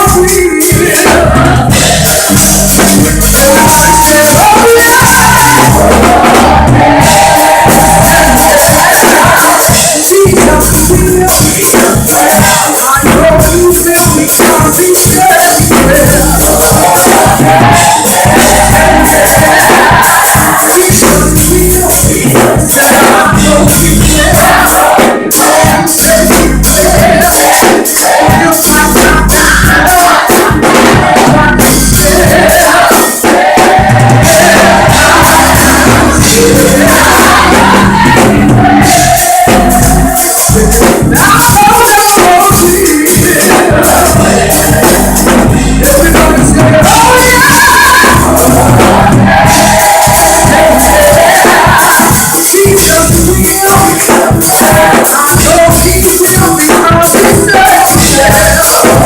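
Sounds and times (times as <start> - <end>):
band with bass and percussion: 0.0 - 59.0
group singing gospel: 0.0 - 59.0.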